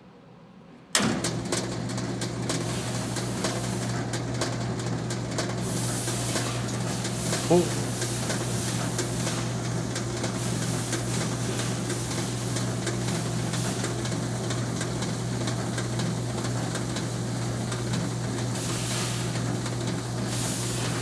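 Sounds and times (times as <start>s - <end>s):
motor and fan hum: 0.9s - 21.0s.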